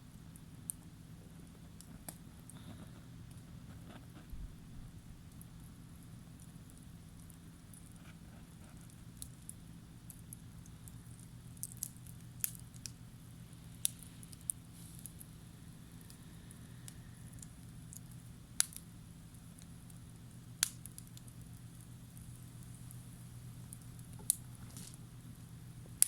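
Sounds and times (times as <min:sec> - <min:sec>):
steady low hum: 0:00.0 - 0:26.0
campfire crackling and popping: 0:00.1 - 0:26.0.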